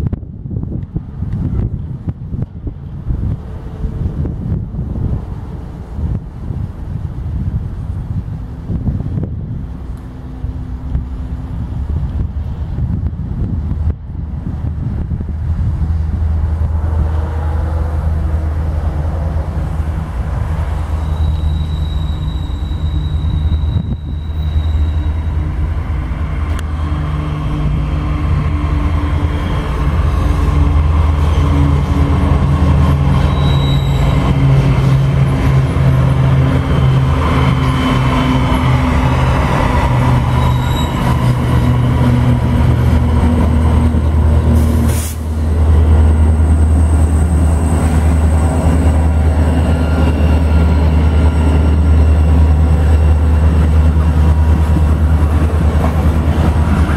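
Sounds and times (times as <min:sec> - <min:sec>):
diesel locomotive engines droning: 0:00.0 - 0:56.9
freight train passing: 0:00.0 - 0:56.9.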